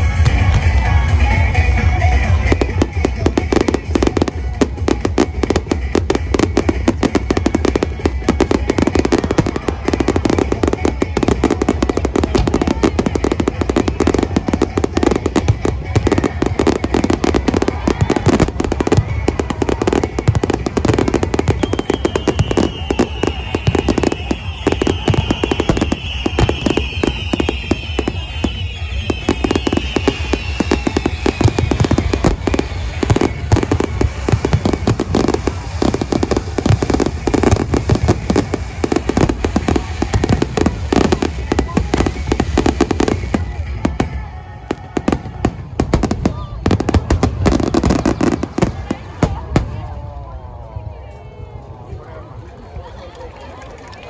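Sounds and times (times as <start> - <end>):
fireworks crackling and booming: 0.0 - 54.0
music: 0.0 - 54.0.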